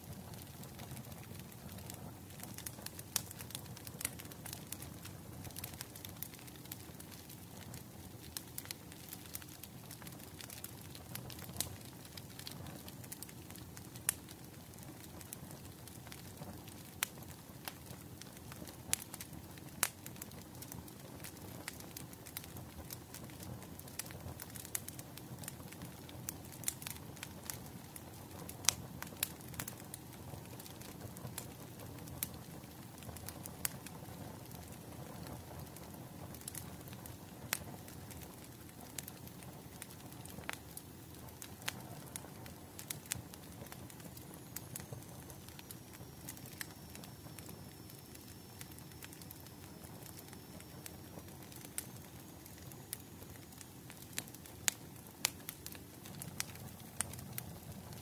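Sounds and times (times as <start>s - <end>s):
low rumble of flames: 0.0s - 58.0s
firewood popping and snapping: 5.4s - 25.0s, 26.0s - 27.6s, 28.7s - 33.7s, 35.7s - 40.6s, 41.2s - 58.0s.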